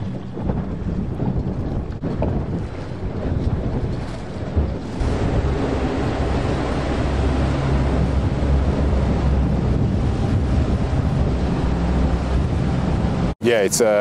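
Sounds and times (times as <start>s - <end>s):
wind buffeting microphone: 0.0s - 13.4s
choppy sea water rushing: 0.0s - 14.0s.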